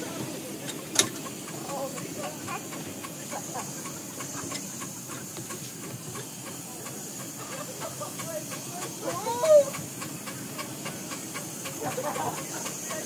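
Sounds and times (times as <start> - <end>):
steam hissing: 0.0 - 13.0
light clicks and beats on track: 0.6 - 13.0.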